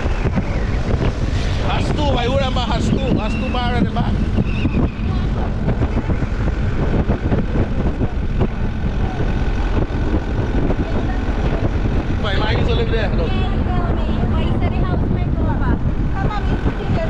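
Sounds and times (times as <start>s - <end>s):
vehicle driving on road: 0.0s - 17.0s.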